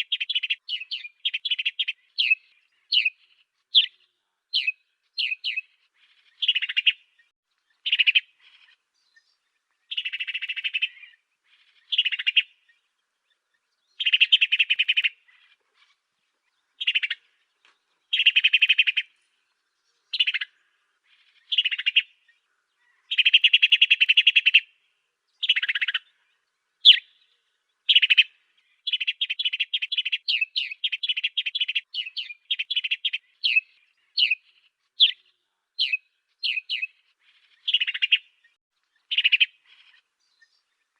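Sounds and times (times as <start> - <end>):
sparrow chirps and trills: 0.0 - 40.9.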